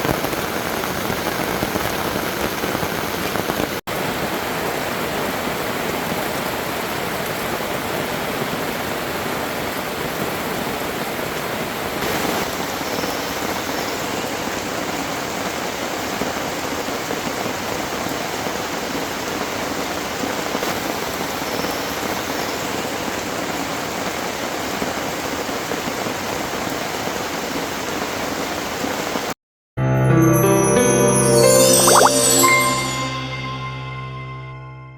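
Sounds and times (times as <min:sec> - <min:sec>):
steady rain falling: 0:00.0 - 0:29.4.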